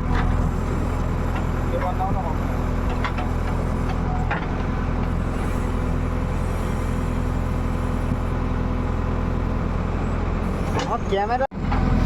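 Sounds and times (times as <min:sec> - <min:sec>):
diesel digger engine running: 0:00.0 - 0:12.0.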